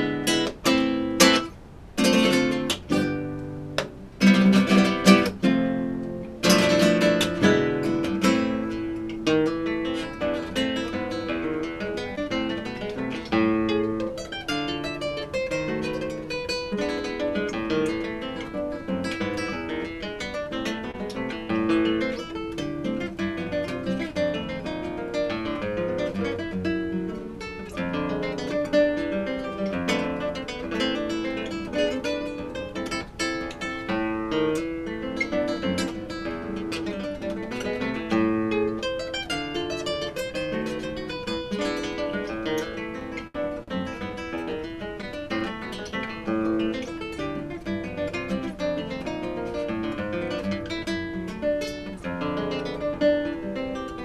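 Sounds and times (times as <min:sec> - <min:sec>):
classical guitar fingerstyle: 0:00.0 - 0:54.0.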